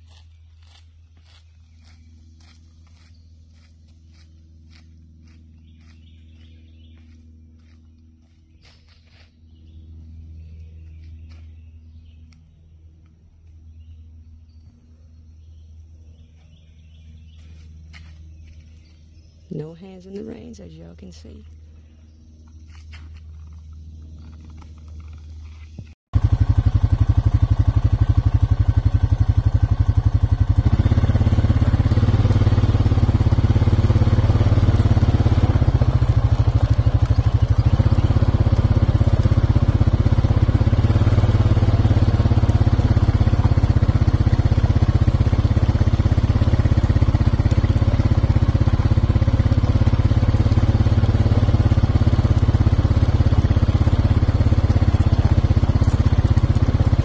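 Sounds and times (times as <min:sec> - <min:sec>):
small engine droning: 0:00.0 - 0:57.0.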